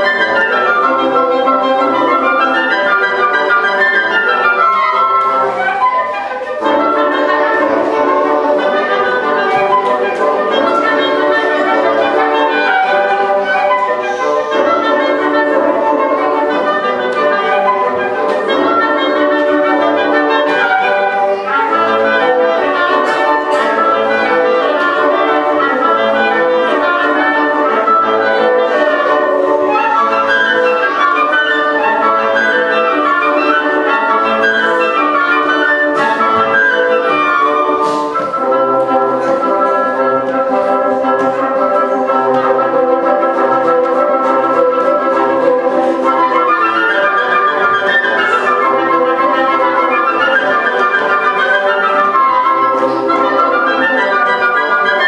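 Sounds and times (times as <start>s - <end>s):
woodwind quintet playing: 0.0s - 55.0s.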